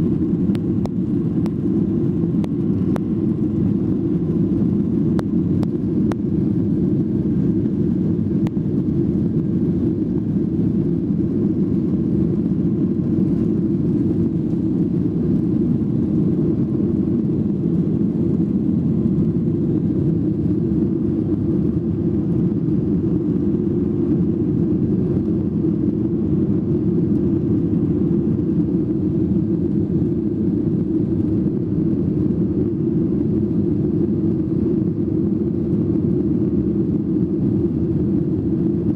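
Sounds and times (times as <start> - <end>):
airplane engines and airflow rumble: 0.0 - 38.9.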